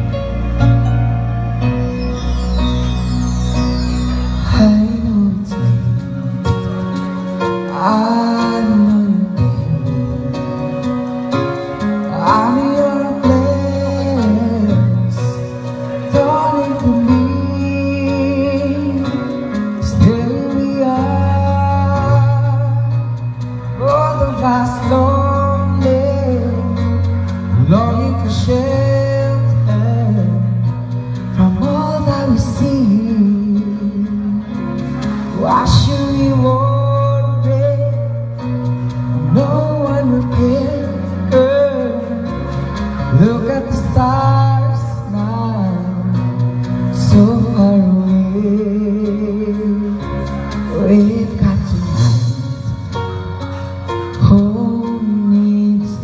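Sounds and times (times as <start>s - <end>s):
instrumental backing track: 0.0s - 56.0s
man singing a slow ballad: 4.4s - 56.0s.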